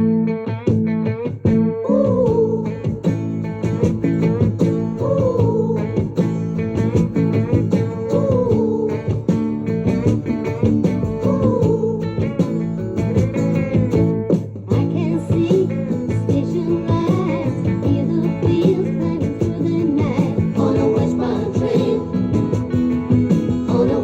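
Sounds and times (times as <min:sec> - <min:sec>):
pop song with singing and band: 0:00.7 - 0:24.0.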